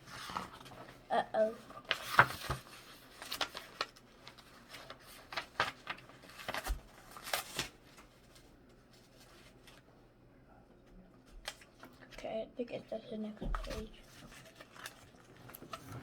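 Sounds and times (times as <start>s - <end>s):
paper pages rustling and turning: 0.0s - 9.9s, 11.2s - 12.3s, 13.4s - 16.0s.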